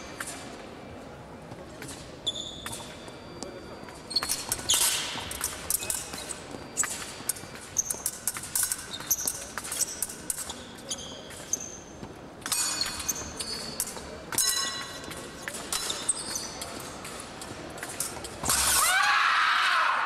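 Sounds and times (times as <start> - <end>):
fencing blades clashing: 0.0 - 0.7, 1.8 - 3.1, 3.9 - 19.1.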